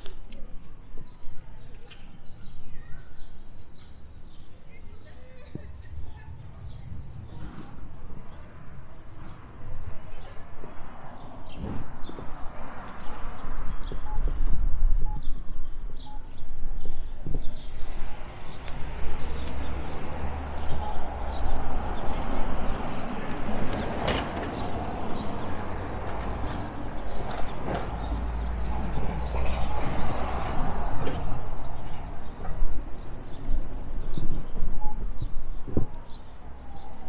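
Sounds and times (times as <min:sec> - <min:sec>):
street traffic rushing: 0:00.0 - 0:37.0.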